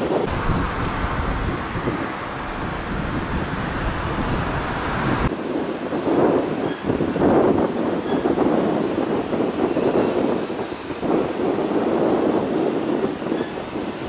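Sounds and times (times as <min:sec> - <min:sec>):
jet engines rumbling: 0:00.0 - 0:13.9.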